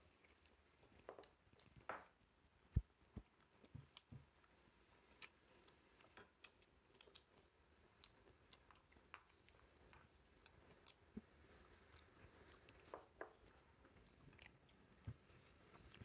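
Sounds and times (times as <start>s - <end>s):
soft chewing: 0.0s - 16.0s.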